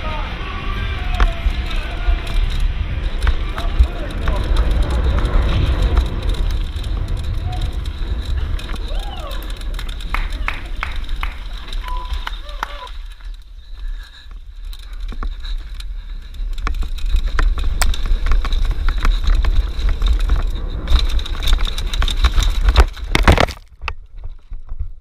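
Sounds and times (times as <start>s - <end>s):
bike chain and frame rattling: 0.0s - 25.0s
bike tyres on dirt: 0.0s - 25.0s
wind rumble on microphone: 0.0s - 25.0s.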